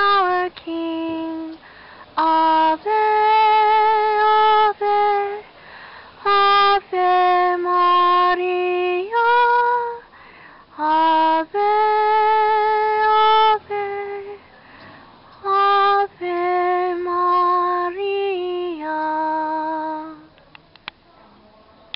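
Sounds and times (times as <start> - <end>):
woman singing unaccompanied: 0.0 - 14.5, 15.2 - 20.4.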